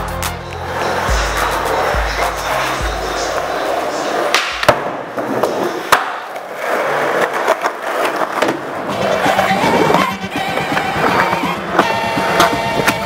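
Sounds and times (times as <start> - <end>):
skateboard wheels rolling on concrete: 0.1 - 13.0
skateboard clack: 0.2 - 13.0.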